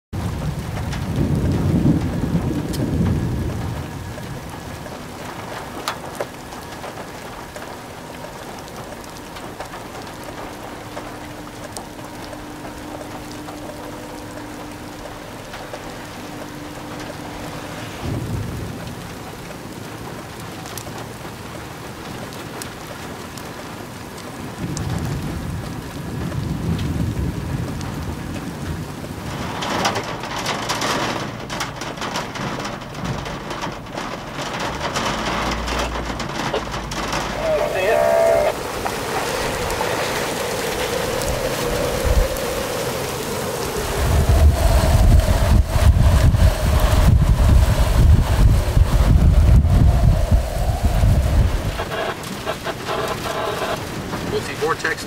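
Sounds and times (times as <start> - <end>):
rain falling: 0.1 - 55.0
rolling thunder: 0.2 - 54.7
sharp raindrop ticks: 0.2 - 55.0.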